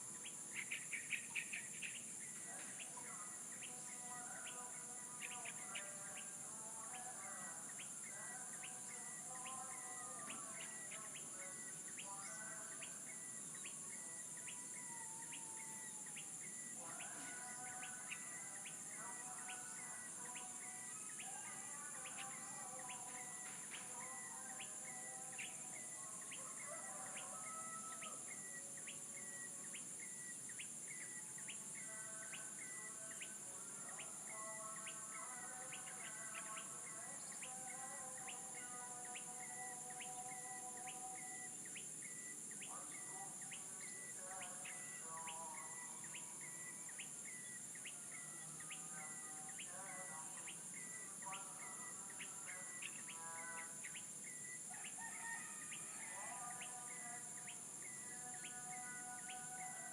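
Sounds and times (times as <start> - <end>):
birds warbling: 0.0 - 59.9
high insect drone: 0.0 - 59.9.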